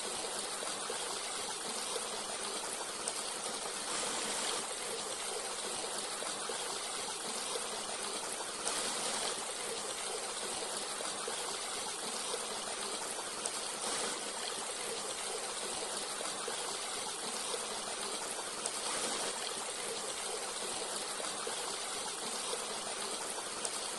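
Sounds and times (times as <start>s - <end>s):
stream flowing: 0.0s - 23.9s.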